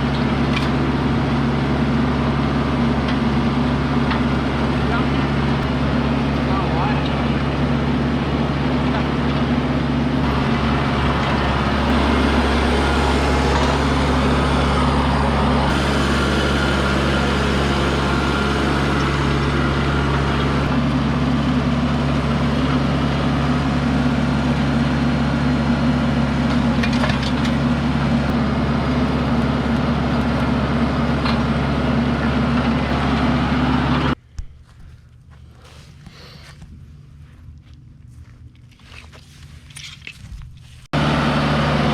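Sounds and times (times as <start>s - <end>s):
engine running with deep hum: 0.0s - 34.2s, 40.9s - 41.9s.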